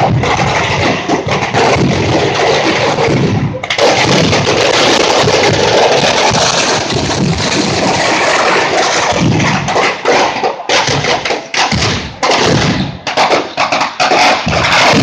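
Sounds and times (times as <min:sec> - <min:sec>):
firecracker explosions: 0:00.0 - 0:15.0.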